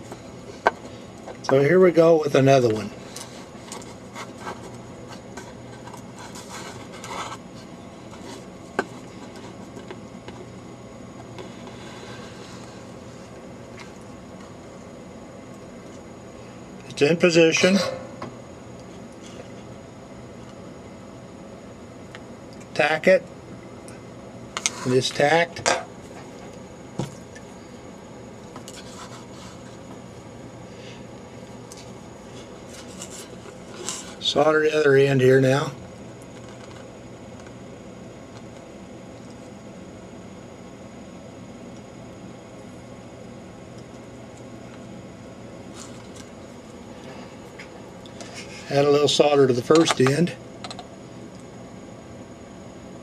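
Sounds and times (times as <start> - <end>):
low steady hum: 0.0 - 53.0
room noise hiss: 0.0 - 53.0.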